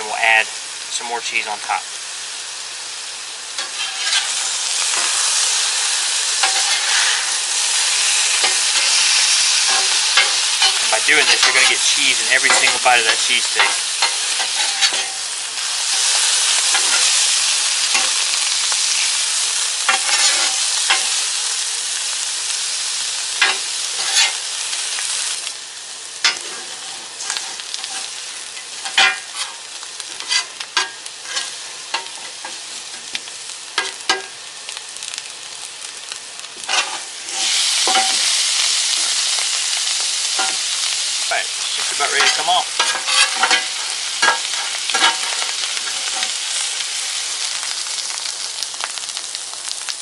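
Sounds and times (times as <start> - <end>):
food sizzling on griddle: 0.0 - 50.0.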